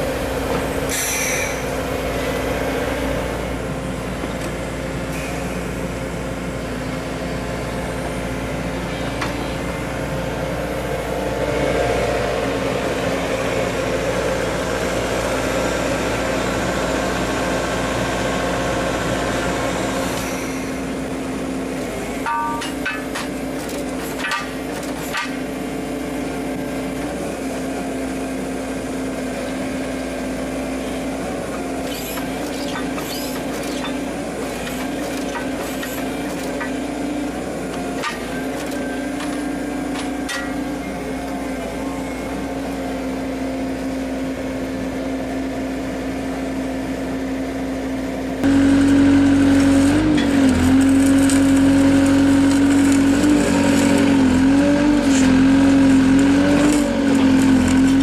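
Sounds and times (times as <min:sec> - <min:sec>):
construction machine engine running: 0:00.0 - 0:58.0.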